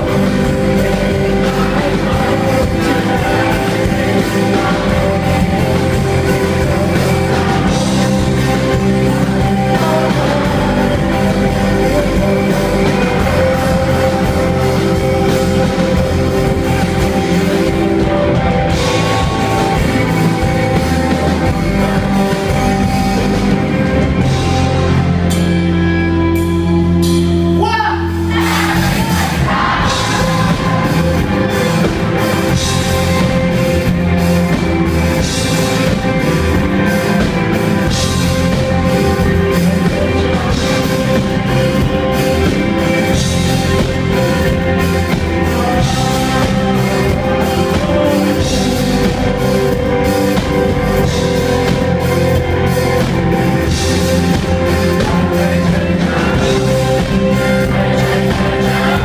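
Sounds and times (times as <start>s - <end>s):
person singing: 0.0s - 23.6s, 27.9s - 59.0s
rock band playing live: 0.0s - 59.0s.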